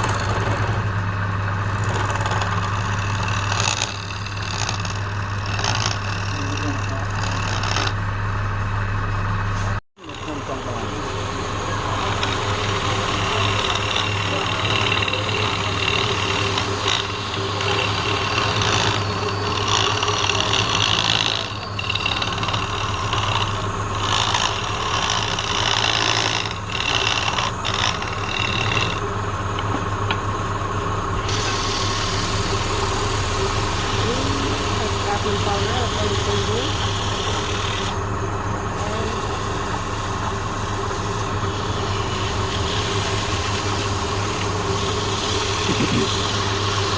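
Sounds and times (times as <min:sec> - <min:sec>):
lathe motor hum: 0:00.0 - 0:46.9
tool cutting wood hiss: 0:02.1 - 0:08.0, 0:10.1 - 0:29.0, 0:31.2 - 0:38.0, 0:38.8 - 0:46.9.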